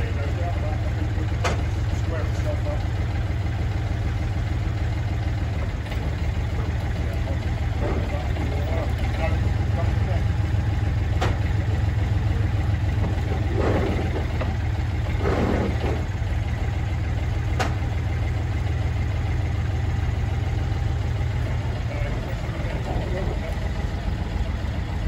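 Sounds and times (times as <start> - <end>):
dumper engine running: 0.0 - 25.0.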